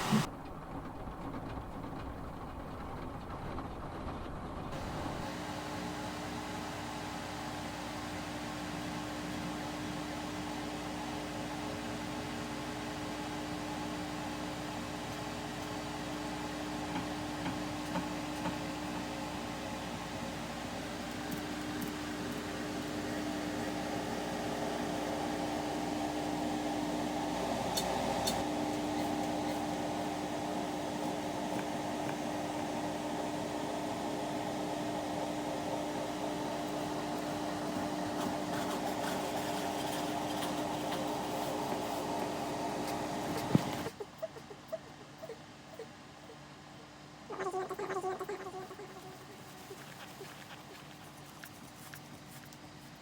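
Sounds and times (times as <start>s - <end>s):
steady hum: 4.6s - 53.0s.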